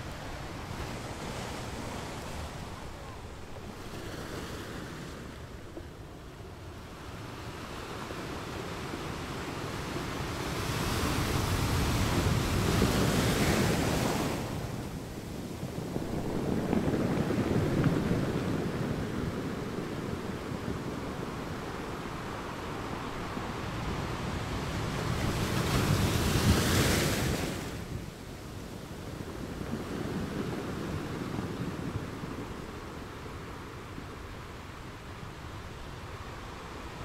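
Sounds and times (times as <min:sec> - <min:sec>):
ocean waves washing on shore: 0:00.0 - 0:37.0.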